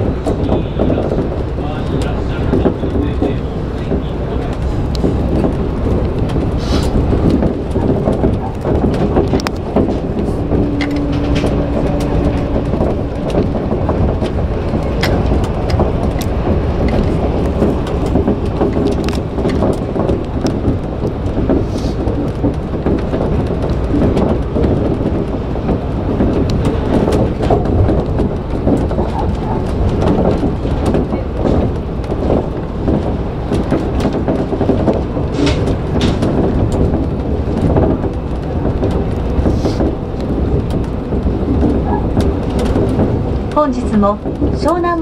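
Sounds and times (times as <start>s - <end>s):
monorail running rumble: 0.0s - 45.0s
sharp clicks and knocks: 0.0s - 45.0s.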